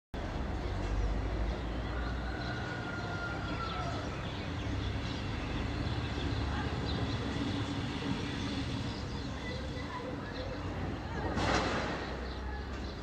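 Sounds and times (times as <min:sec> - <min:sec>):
distant traffic rumble: 0:00.2 - 0:13.0.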